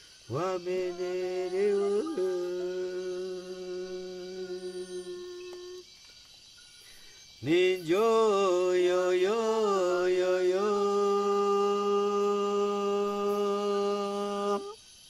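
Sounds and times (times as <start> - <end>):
person chanting: 0.3 - 5.8, 7.4 - 14.8.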